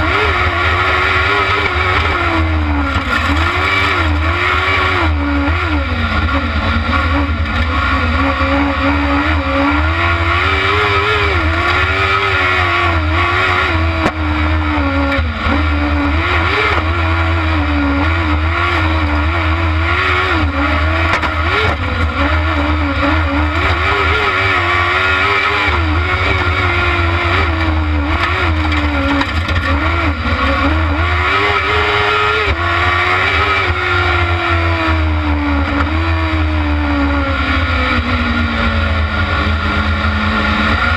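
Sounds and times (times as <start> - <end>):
buggy engine revving: 0.0 - 40.9.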